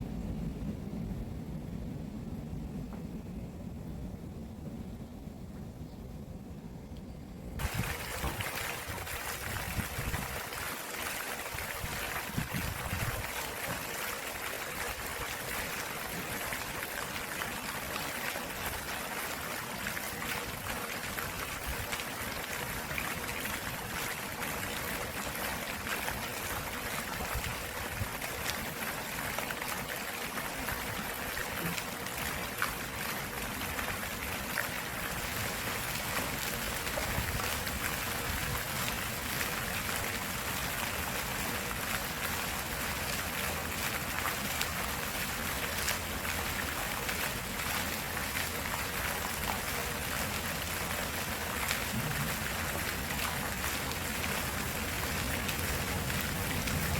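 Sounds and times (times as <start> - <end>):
stream water flowing: 7.6 - 56.9.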